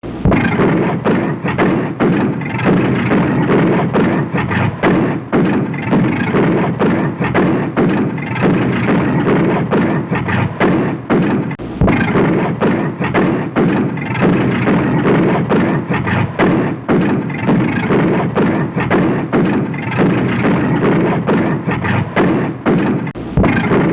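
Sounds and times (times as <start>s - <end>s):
exhaust backfiring pops and bangs: 0.0s - 23.9s.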